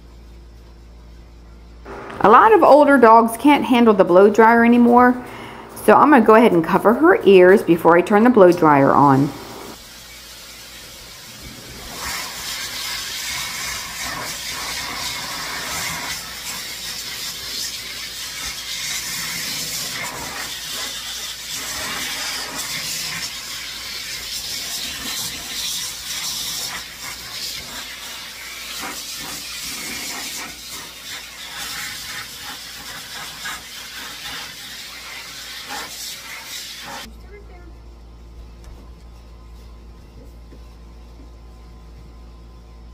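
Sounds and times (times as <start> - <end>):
blow dryer air rush: 1.9 - 9.9, 10.6 - 37.1.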